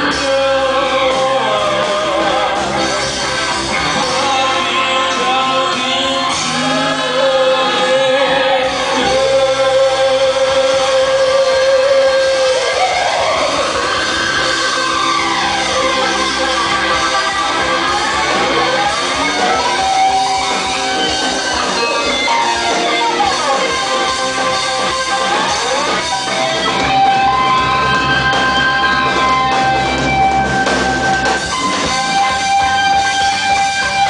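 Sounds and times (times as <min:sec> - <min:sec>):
electric guitar pitch glides: 0:00.0 - 0:34.0
live band playing instrumental: 0:00.0 - 0:34.0.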